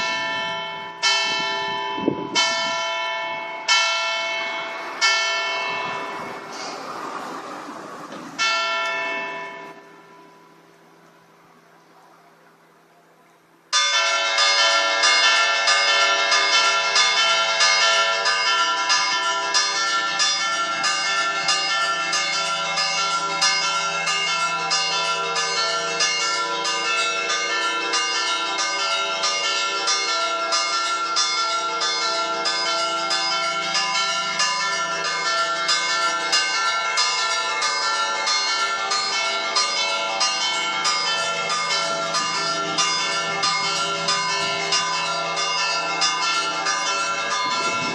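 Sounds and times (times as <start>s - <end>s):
church bells pealing: 0.0s - 11.6s, 13.6s - 47.9s.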